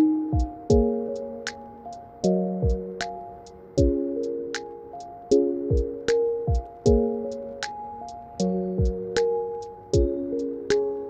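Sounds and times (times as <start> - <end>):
kick drums and hi-hats: 0.0 - 1.6, 2.6 - 7.6, 8.4 - 10.9
electronic music: 0.0 - 11.0
held synth chords: 0.0 - 11.0.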